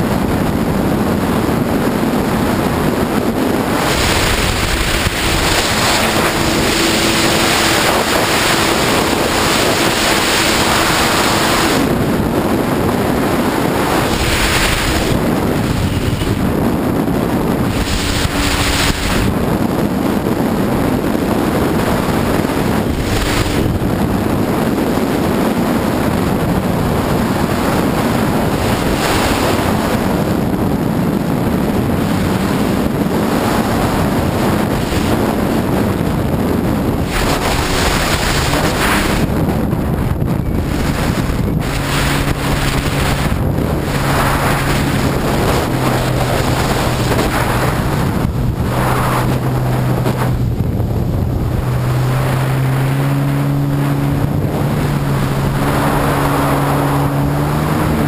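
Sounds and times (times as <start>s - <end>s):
watercraft engine hum: 0.0s - 58.0s
wind buffeting microphone: 0.0s - 58.0s
water sweeping past hull: 0.4s - 58.0s.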